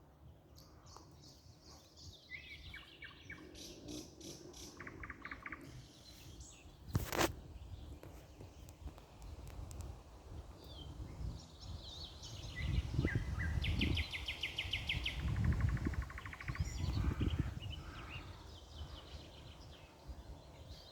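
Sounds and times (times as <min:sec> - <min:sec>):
songbirds singing trills: 0:00.0 - 0:20.9.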